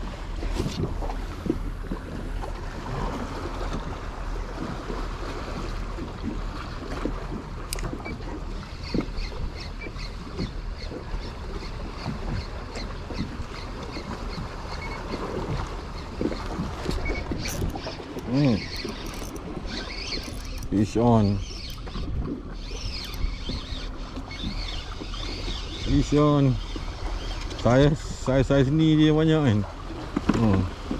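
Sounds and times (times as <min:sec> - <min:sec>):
wind buffeting microphone: 0:00.0 - 0:27.1
waves slapping kayak hull: 0:00.0 - 0:30.9.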